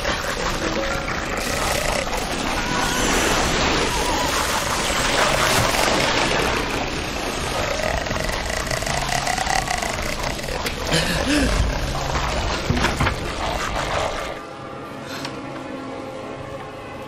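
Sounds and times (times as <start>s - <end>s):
droning horror film soundtrack: 0.0s - 17.0s.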